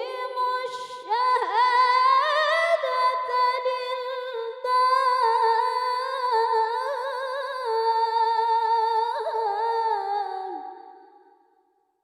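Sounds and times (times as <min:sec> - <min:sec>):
woman reciting melodically: 0:00.0 - 0:10.8.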